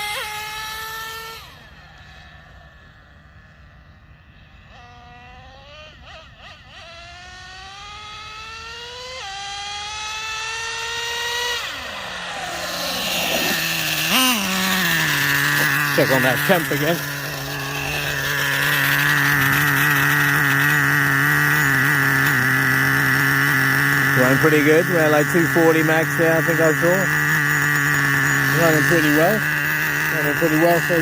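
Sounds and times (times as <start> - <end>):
model truck nitro engine revving: 0.0 - 31.0.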